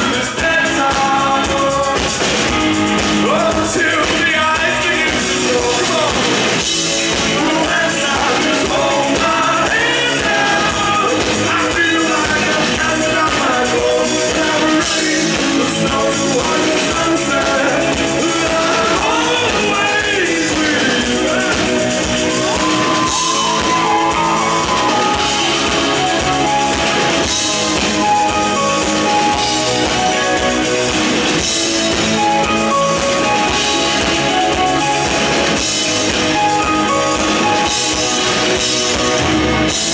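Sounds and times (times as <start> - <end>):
person singing lead vocal: 0.0 - 35.4
live rock band playing: 0.0 - 39.9.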